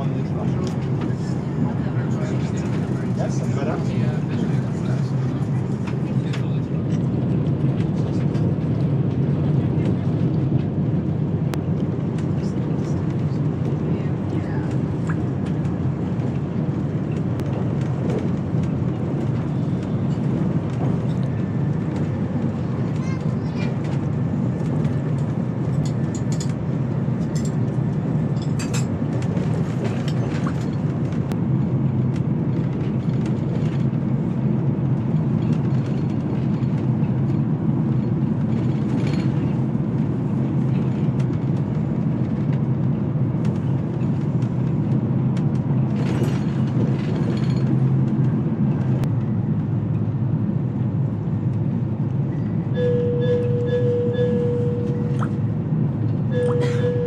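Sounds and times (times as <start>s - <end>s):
passing train: 0.0s - 57.0s
train rumble inside coach: 0.0s - 57.0s.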